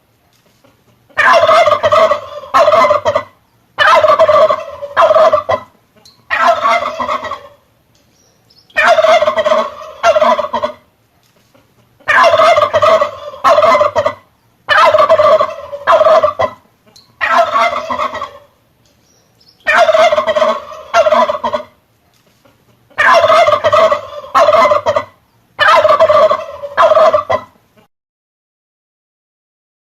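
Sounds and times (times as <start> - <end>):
turkey gobbling: 0.6 - 7.7, 8.7 - 18.6, 19.5 - 21.8, 22.4 - 27.9.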